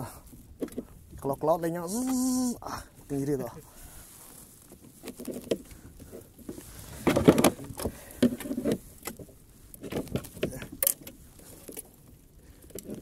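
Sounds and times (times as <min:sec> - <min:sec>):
fish handled on plastic kayak: 0:00.2 - 0:02.5, 0:03.6 - 0:13.0.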